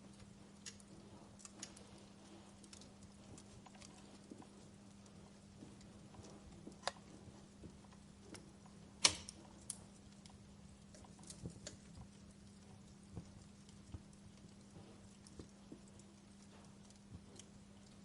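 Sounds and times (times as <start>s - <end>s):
faint low hum: 0.0s - 18.0s
wood fire popping and ticking: 0.0s - 18.0s.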